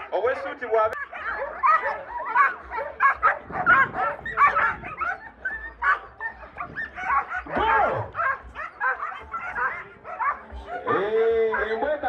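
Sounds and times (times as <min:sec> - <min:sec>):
dogs whining and yipping: 0:01.0 - 0:11.9.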